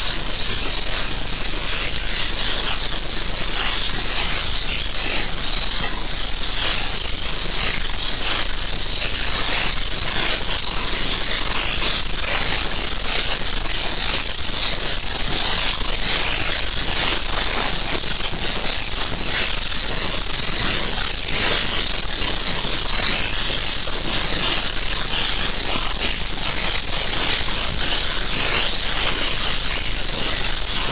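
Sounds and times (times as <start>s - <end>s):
night insects chirring: 0.0s - 30.9s.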